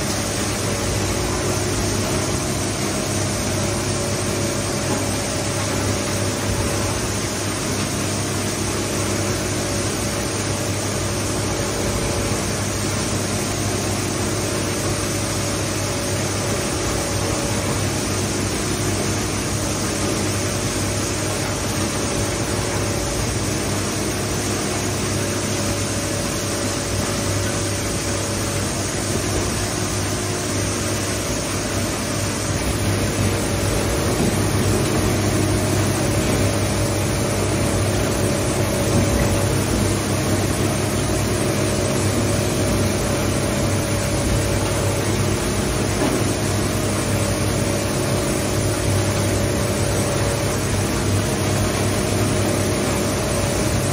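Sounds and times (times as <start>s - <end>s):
industrial shredder motor hum: 0.0s - 53.9s.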